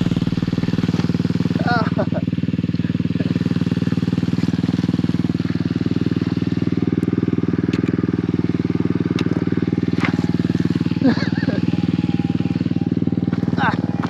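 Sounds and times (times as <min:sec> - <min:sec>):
pit bike engine running: 0:00.0 - 0:14.0.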